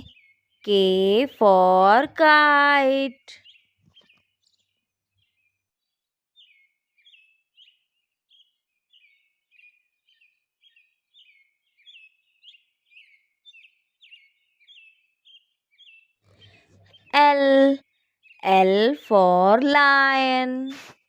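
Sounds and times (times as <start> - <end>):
bird chirps: 0.0 - 21.0.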